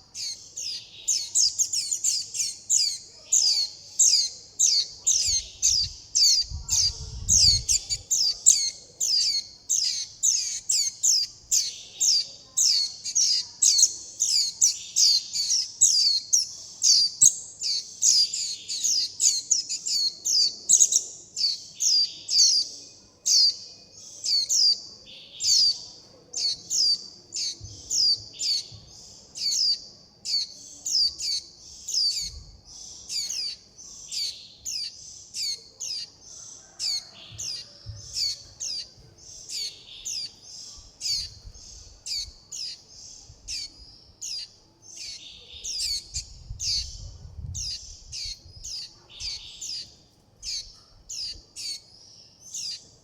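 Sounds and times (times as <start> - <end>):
fledgling bird begging chirps: 0.0 - 23.5, 24.2 - 52.9.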